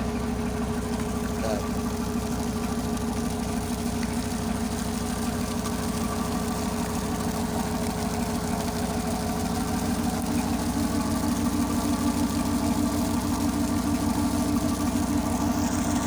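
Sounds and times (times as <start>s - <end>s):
tugboat engine droning: 0.0s - 16.0s.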